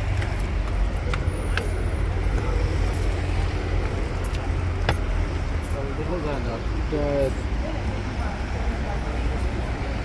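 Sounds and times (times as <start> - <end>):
rumble of passing vehicles: 0.0 - 10.0.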